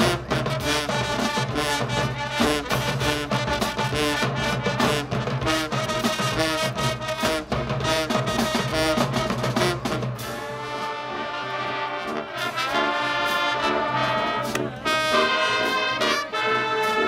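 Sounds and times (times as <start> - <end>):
marching band brass: 0.0 - 17.0
steady drum beat: 0.0 - 17.0.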